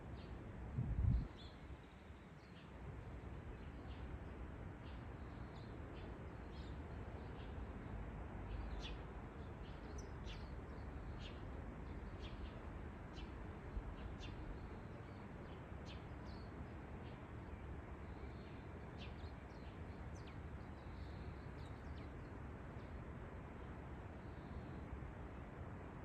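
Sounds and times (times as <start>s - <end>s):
low background hiss: 0.0s - 26.0s.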